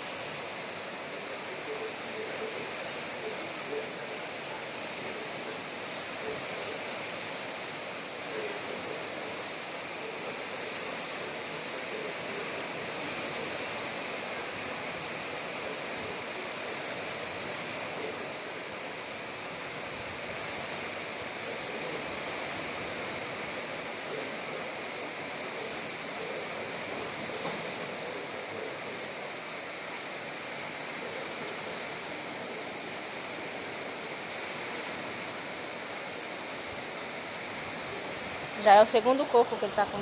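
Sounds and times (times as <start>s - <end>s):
rushing outdoor background noise: 0.0s - 40.0s.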